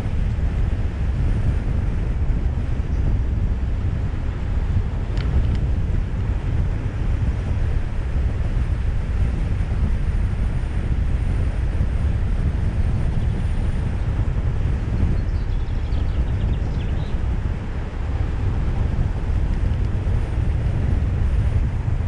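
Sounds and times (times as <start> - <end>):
car driving on road: 0.0 - 22.0.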